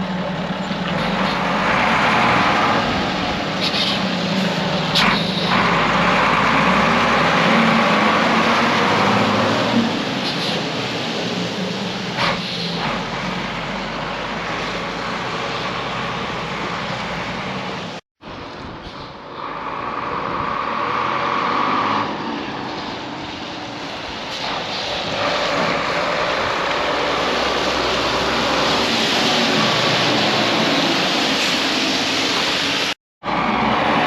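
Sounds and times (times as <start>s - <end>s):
lorry diesel engine running: 0.0s - 34.0s.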